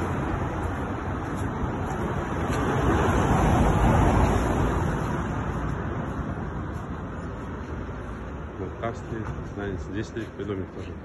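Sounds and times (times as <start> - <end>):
car passing: 0.0 - 9.9.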